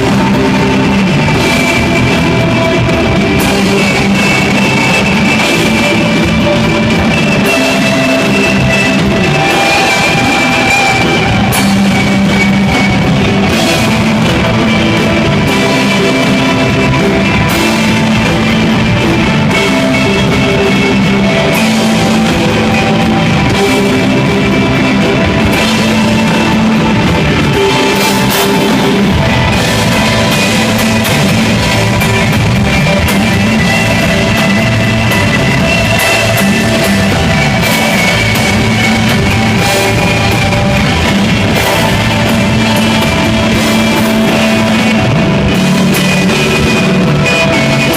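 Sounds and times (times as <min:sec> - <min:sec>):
bass guitar: 0:00.0 - 0:47.9
drum beat with cymbals: 0:00.0 - 0:47.9
sustained electric guitar: 0:00.0 - 0:47.9.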